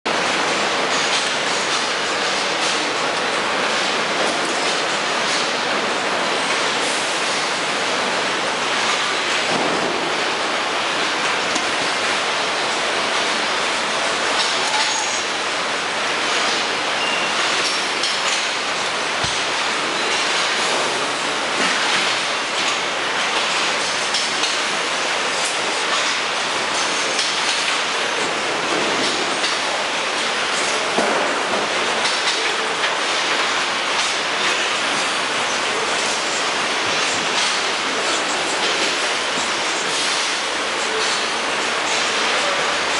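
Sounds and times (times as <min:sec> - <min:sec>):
assembly line machinery: 0:00.1 - 0:42.9.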